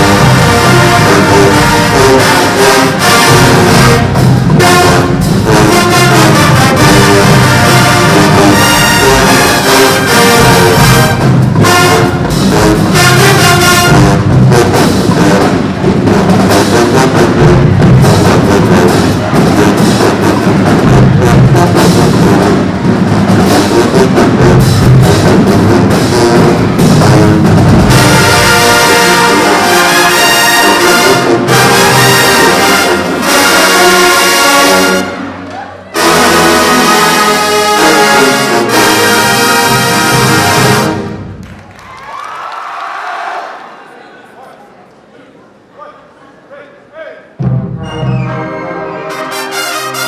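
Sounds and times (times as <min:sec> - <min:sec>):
marching band playing: 0:00.0 - 0:41.6, 0:47.4 - 0:50.0.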